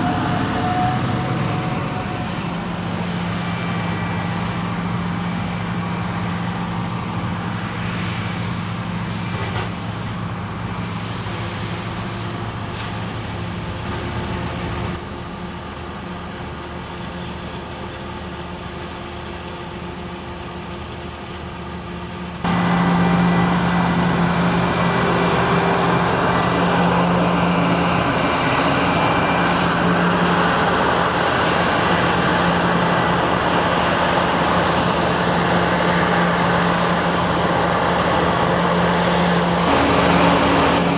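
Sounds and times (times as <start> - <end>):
diesel engines of machinery running: 0.0 - 40.9.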